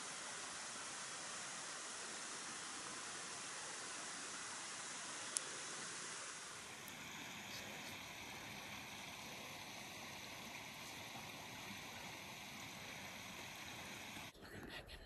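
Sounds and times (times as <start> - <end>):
outdoor rushing hiss: 0.0 - 14.4.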